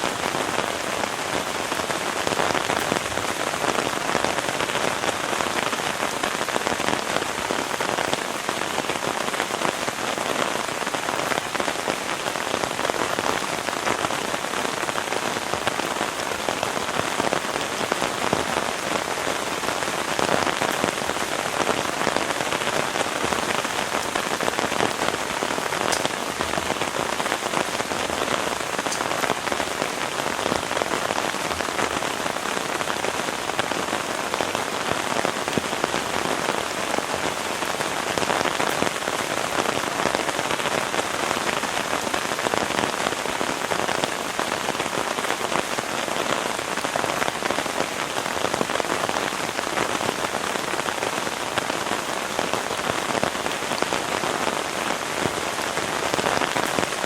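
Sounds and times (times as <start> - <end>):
heavy rain on a surface: 0.0 - 57.0.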